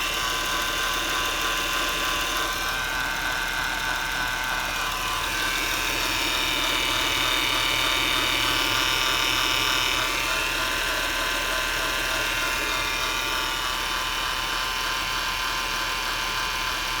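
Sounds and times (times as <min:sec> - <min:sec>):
car mechanical whine: 0:00.0 - 0:17.0.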